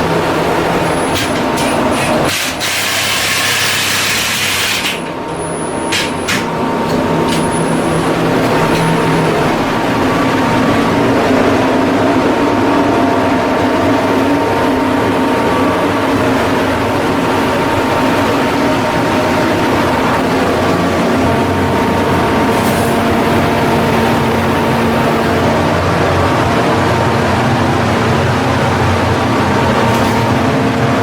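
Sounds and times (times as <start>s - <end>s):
heavy machinery droning: 0.0s - 31.0s.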